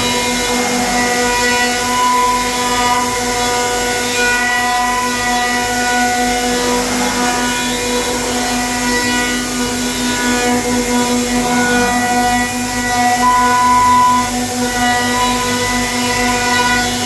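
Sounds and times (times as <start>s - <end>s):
cnc router spindle whine: 0.0s - 17.0s.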